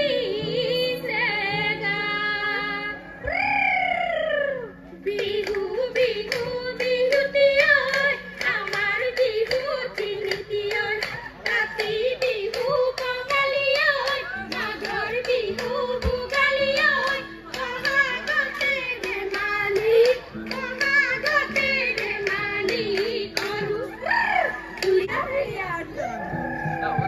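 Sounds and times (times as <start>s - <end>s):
woman singing through pa: 0.0s - 27.0s.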